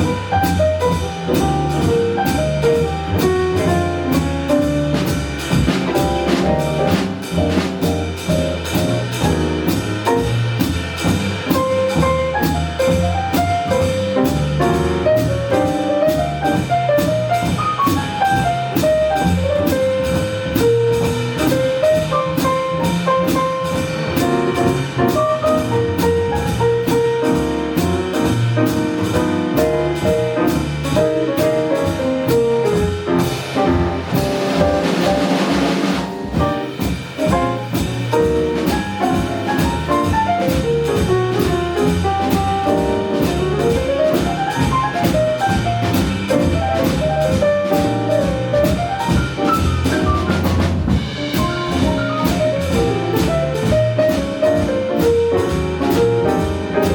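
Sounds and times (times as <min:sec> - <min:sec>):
drum kit beat: 0:00.0 - 0:56.9
jazz band playing: 0:00.0 - 0:56.9.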